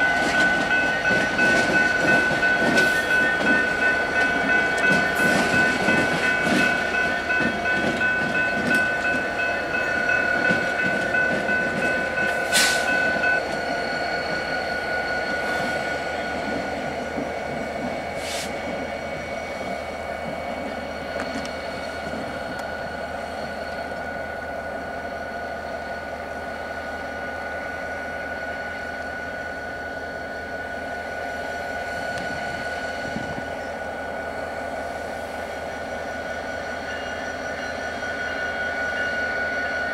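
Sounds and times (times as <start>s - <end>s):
locomotive engine hum and whine: 0.0s - 39.9s.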